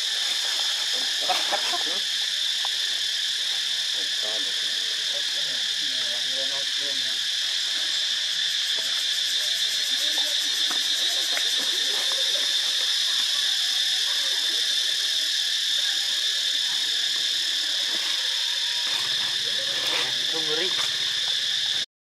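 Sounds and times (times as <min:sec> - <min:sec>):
insects buzzing: 0:00.0 - 0:21.9.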